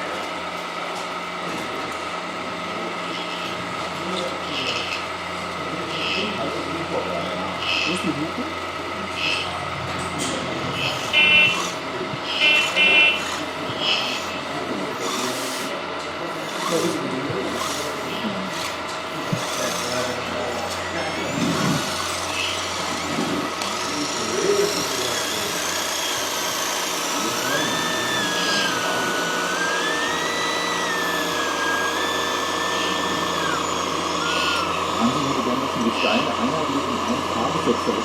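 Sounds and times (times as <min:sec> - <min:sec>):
mechanical background noise: 0:00.0 - 0:38.0
small electric motor whining: 0:02.8 - 0:38.0.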